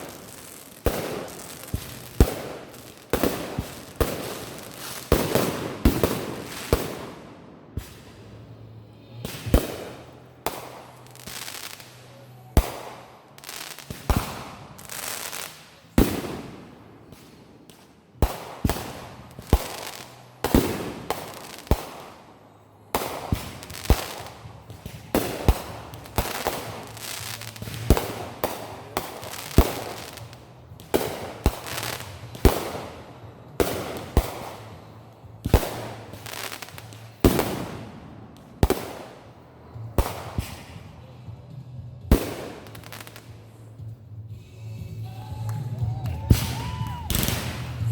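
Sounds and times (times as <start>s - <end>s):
fireworks banging: 0.0s - 22.3s, 22.9s - 44.0s, 45.4s - 47.9s.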